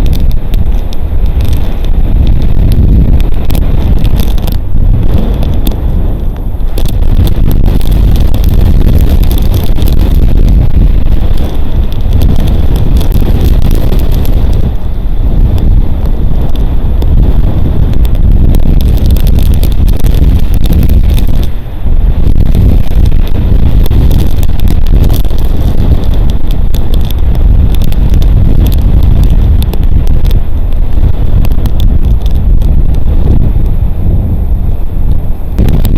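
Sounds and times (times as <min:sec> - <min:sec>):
raindrops ticking: 0:00.0 - 0:33.7
wind buffeting microphone: 0:00.0 - 0:35.9.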